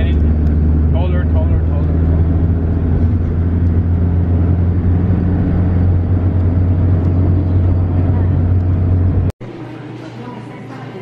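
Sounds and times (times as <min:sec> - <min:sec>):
vehicle engine and road hum: 0:00.0 - 0:09.4.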